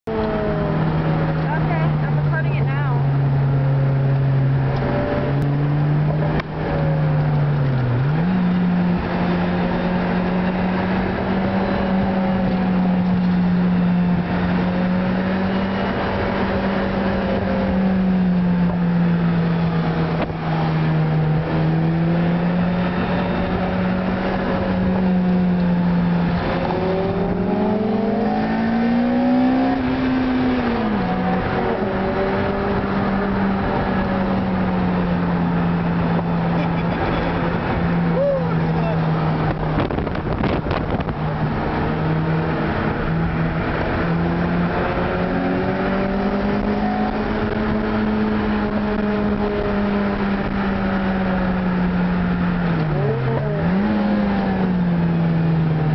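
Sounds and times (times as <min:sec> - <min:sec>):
car engine at road speed: 0:00.0 - 0:55.9
road noise: 0:00.0 - 0:55.9.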